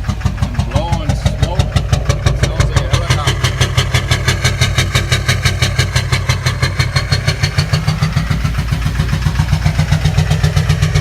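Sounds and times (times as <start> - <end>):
diesel engine idling with knock: 0.0 - 11.0.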